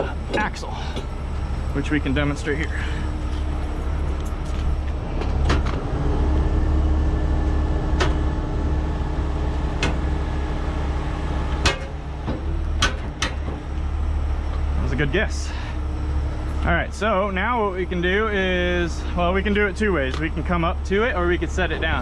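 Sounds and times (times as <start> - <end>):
diesel engine running: 0.0 - 22.0
hydraulic hum: 0.0 - 22.0.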